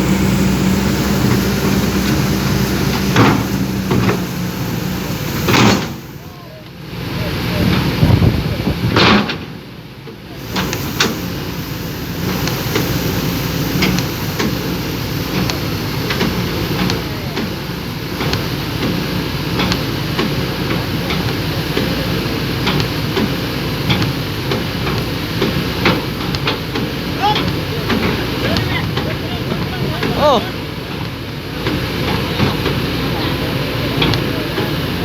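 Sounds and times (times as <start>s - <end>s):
backhoe engine running: 0.0s - 9.2s, 9.9s - 35.0s.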